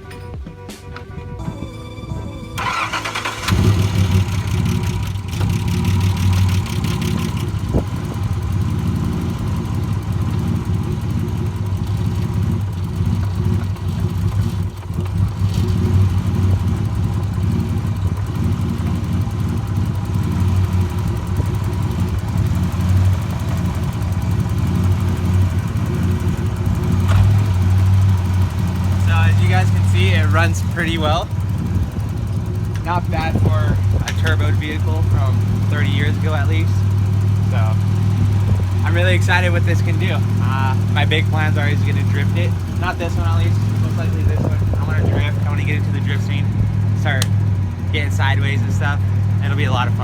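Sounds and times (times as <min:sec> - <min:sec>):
car engine cranking and starting: 0:02.1 - 0:50.0.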